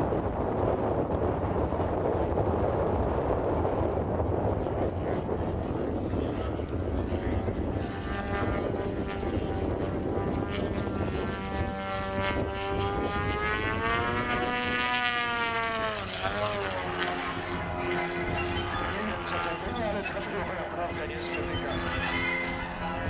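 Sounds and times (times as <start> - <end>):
model aircraft engine flying overhead: 0.0 - 23.0.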